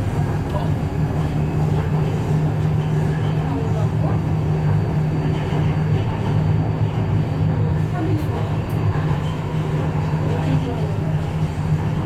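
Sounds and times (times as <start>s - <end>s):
metro train rumble and hum: 0.0s - 12.0s.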